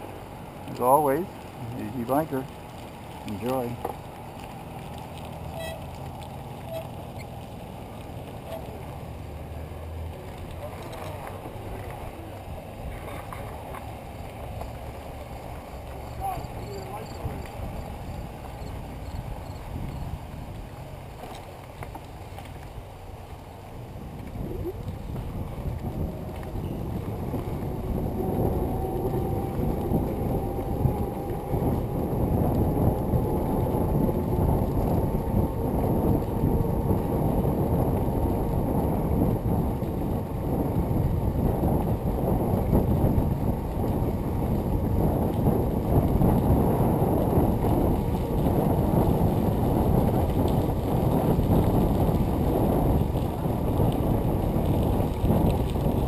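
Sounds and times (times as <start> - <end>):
bicycle tyres rolling on trail: 0.0 - 56.0
wind rushing over microphone: 0.0 - 56.0.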